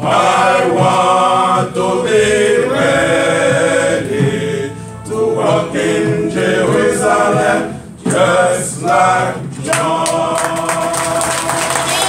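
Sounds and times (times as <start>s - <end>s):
male choir singing a cappella: 0.0s - 11.9s.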